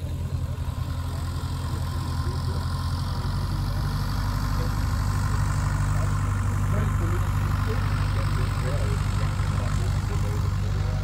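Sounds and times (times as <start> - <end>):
piston engine humming at low revs: 0.0 - 11.0.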